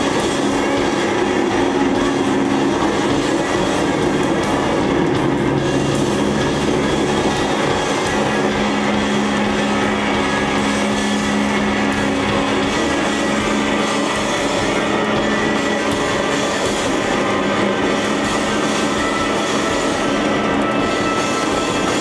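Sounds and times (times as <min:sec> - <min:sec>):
band playing droning chords: 0:00.0 - 0:22.0.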